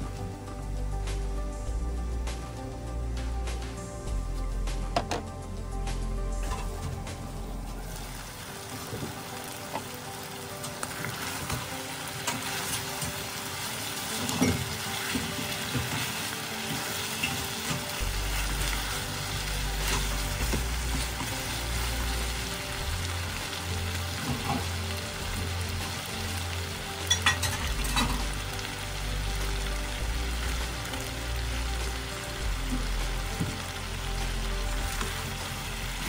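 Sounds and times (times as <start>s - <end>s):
chicken sizzling in a wok: 6.4s - 36.0s.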